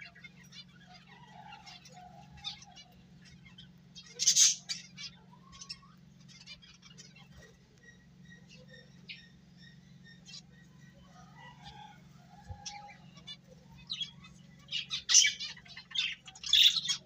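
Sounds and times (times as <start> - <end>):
faint steady low hum: 0.0 - 17.0
finches chirping: 0.0 - 17.0.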